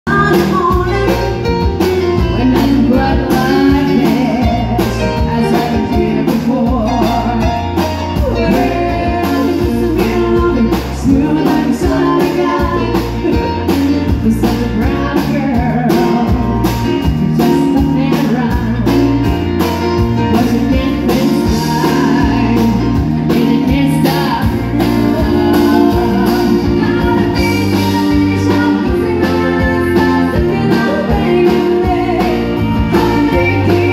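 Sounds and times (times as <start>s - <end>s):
band with bass and drums: 0.0s - 33.9s
pedal steel guitar: 0.1s - 33.9s
woman singing country song: 0.1s - 33.9s.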